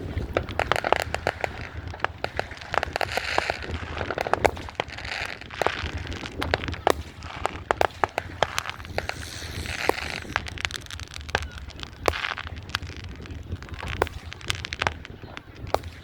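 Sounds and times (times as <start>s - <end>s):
fireworks bangs and cracks: 0.0s - 16.0s
fireworks crackling: 0.0s - 16.0s.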